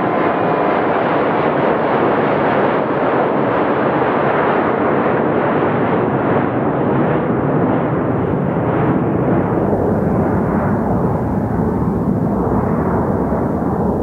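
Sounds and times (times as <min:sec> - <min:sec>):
jet airliner roar: 0:00.0 - 0:14.0.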